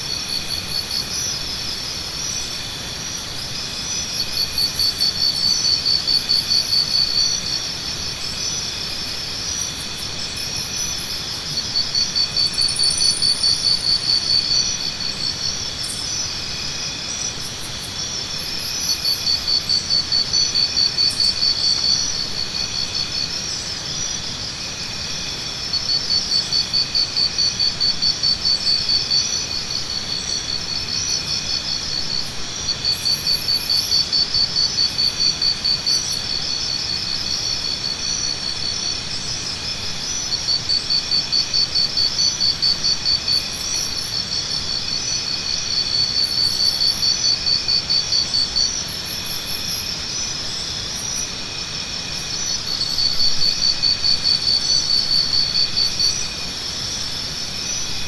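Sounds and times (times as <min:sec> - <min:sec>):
chorus of shrilling insects: 0:00.0 - 0:58.0
pulsing insect trill: 0:00.0 - 0:58.0.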